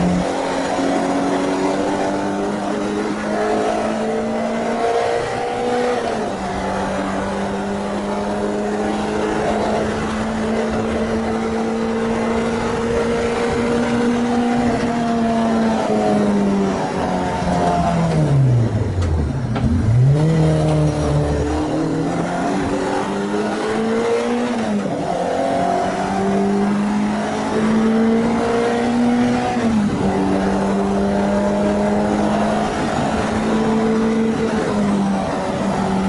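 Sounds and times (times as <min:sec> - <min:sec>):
car engine revving through gears: 0:00.0 - 0:36.0.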